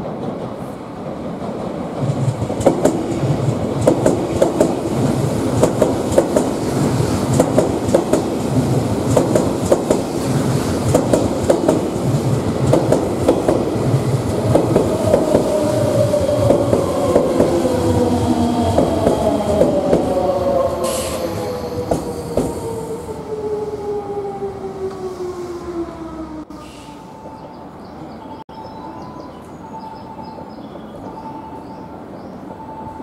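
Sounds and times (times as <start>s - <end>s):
train rumble: 0.0s - 28.1s.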